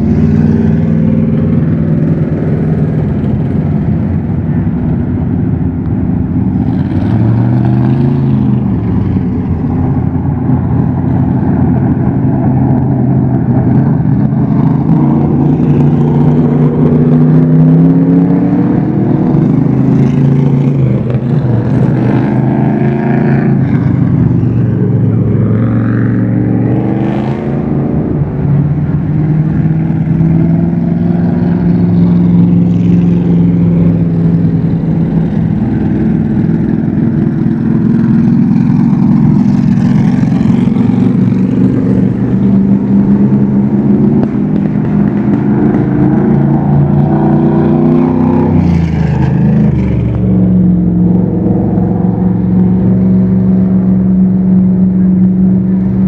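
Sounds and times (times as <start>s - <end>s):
stock car engines revving: 0.0s - 56.0s.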